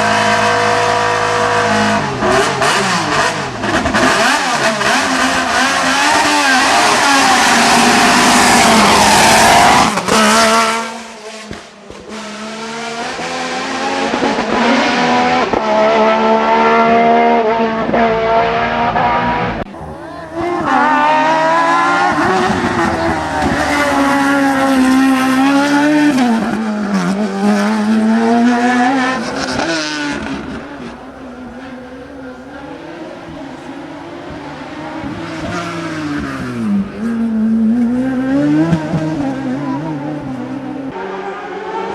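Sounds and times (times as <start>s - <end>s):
race car engines at full throttle: 0.0s - 41.9s.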